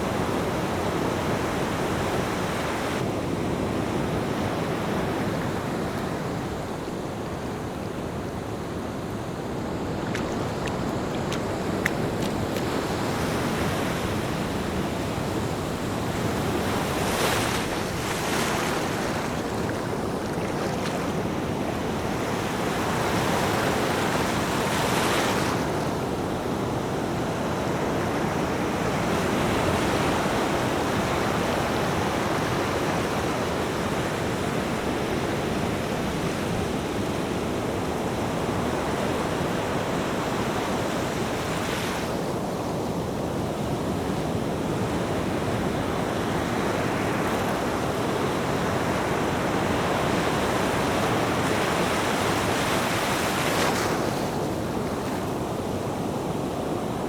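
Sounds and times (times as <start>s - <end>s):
ocean waves breaking: 8.1s - 57.0s.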